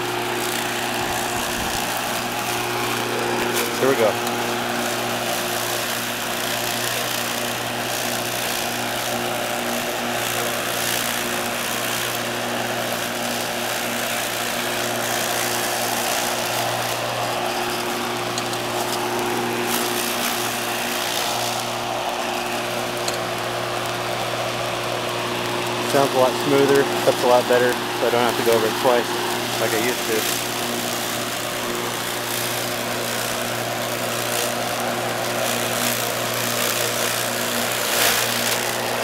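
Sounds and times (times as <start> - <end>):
electric lawnmower humming: 0.0 - 39.0.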